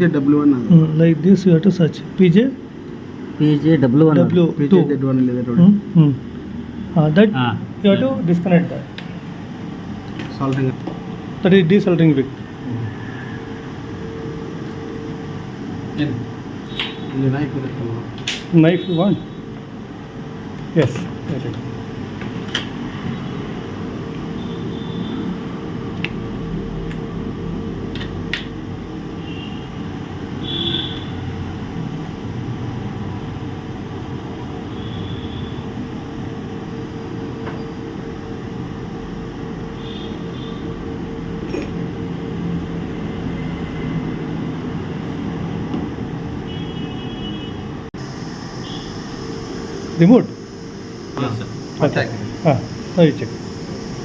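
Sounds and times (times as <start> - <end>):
electric fan hum: 0.0 - 54.0.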